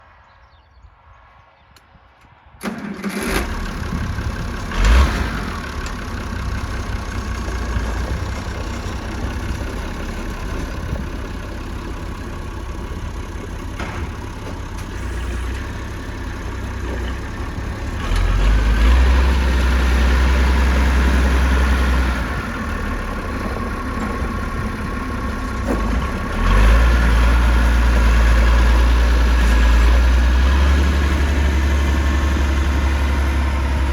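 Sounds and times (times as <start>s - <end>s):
tractor engine cranking and running: 2.6s - 33.9s.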